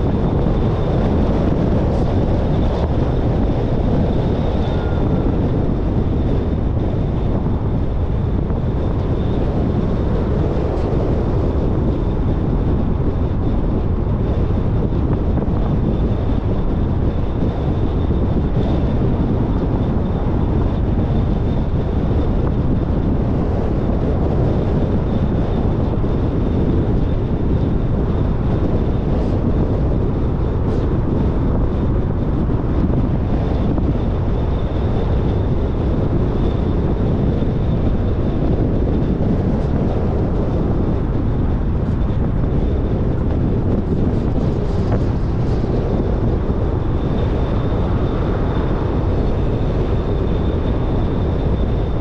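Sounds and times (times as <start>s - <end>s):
car road and wind noise: 0.0s - 52.0s.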